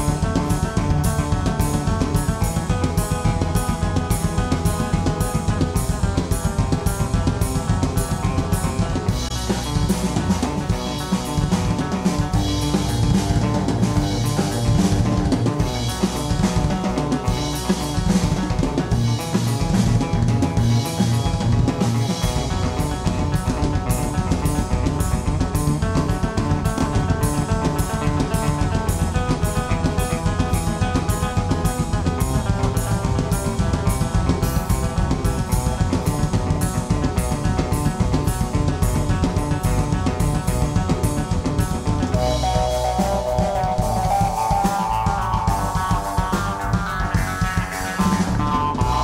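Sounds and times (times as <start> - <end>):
drum kit beat: 0.0 - 49.0
instrumental band music: 0.0 - 49.0.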